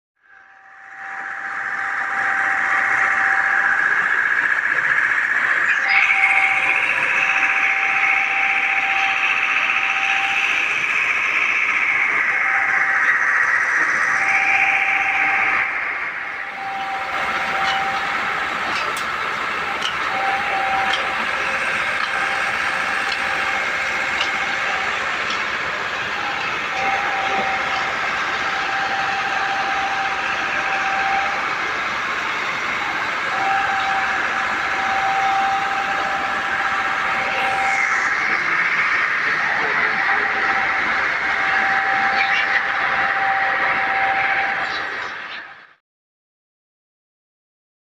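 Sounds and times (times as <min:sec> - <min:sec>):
thin steady whine: 0:00.2 - 0:45.8
hissing machinery noise: 0:00.3 - 0:45.8.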